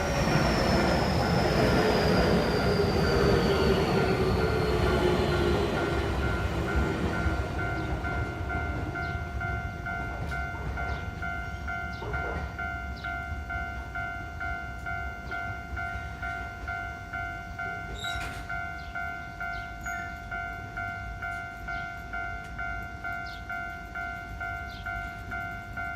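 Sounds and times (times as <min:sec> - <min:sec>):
passing train rumble: 0:00.0 - 0:25.9.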